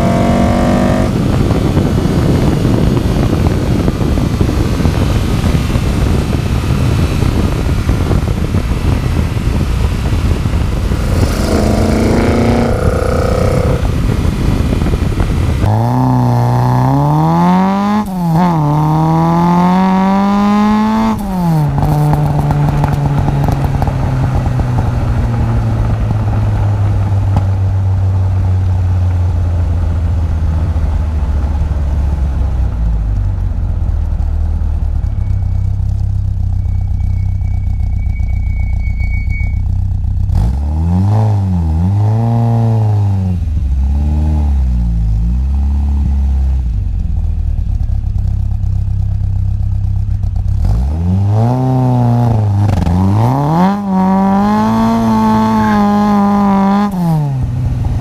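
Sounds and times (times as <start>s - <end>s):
car engine accelerating hard: 0.0s - 38.4s, 40.0s - 58.0s.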